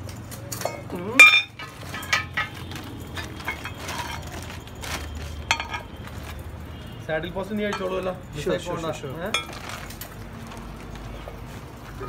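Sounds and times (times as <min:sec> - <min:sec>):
metal bicycle parts clinking: 0:00.0 - 0:10.7.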